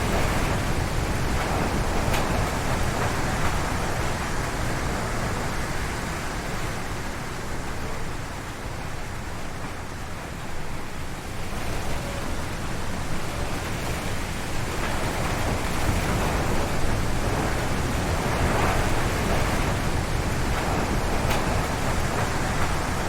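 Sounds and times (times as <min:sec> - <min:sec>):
strong wind gusting through trees: 0:00.0 - 0:23.0
wind buffeting microphone: 0:00.0 - 0:23.0.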